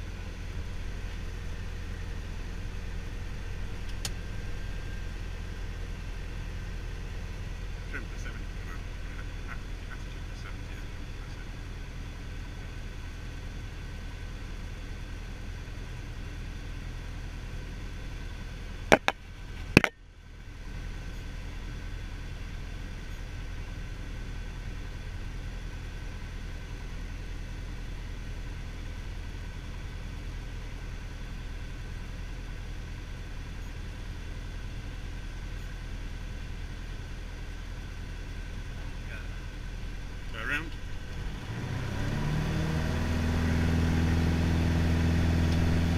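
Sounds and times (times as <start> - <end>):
light aircraft engine droning: 0.0 - 45.9.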